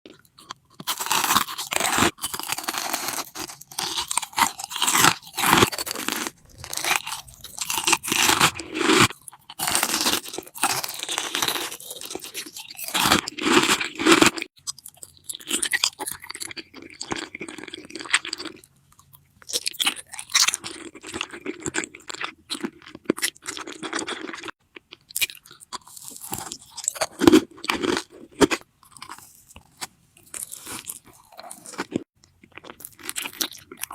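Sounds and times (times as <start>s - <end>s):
crunchy food being chewed: 0.1s - 33.9s.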